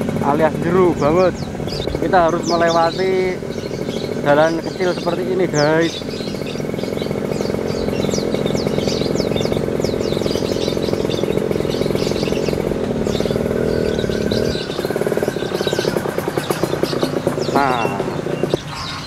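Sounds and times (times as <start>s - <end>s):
birds chirping: 0.0s - 19.0s
motorcycle engine running: 0.0s - 19.0s.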